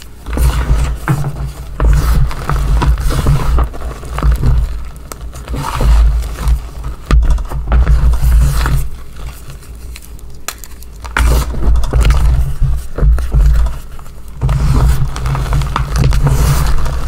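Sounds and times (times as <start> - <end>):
chalk crunching and crackling: 0.0 - 17.0
low hand handling noise: 0.0 - 17.0.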